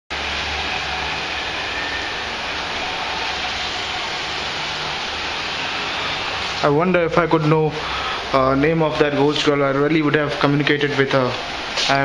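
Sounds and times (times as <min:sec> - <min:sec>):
steady hiss: 0:00.2 - 0:12.0.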